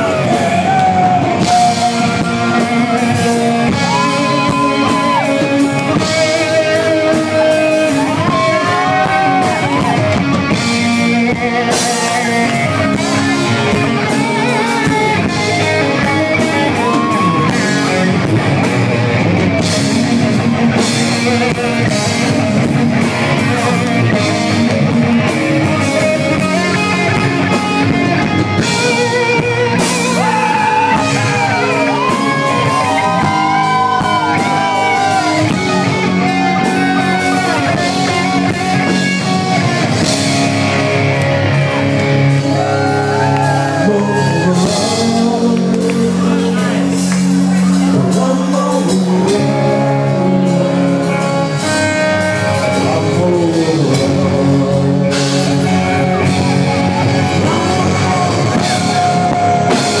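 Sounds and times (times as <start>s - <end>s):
drum kit: 0.0s - 60.0s
electric guitar lead: 0.0s - 60.0s.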